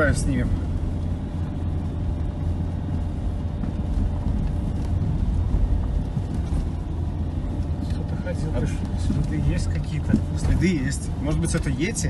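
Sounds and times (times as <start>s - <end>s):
car driving through snow: 0.0s - 12.0s.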